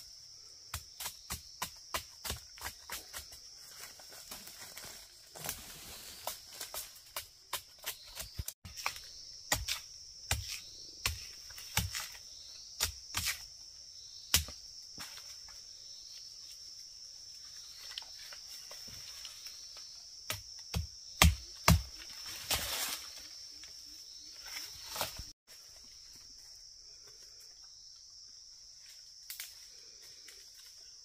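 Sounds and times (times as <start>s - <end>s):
forest insects droning: 0.0s - 31.0s.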